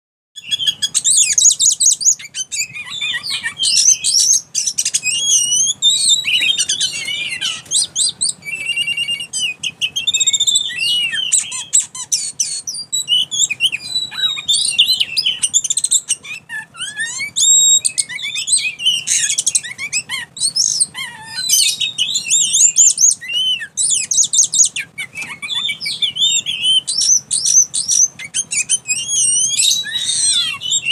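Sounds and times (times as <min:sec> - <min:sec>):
bird singing whistles and trills: 0:00.4 - 0:30.9.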